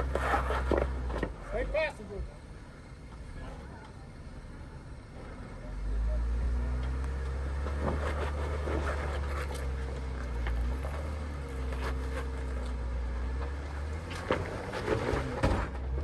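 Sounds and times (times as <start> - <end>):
engine rumbling at low revs: 0.0 - 16.0.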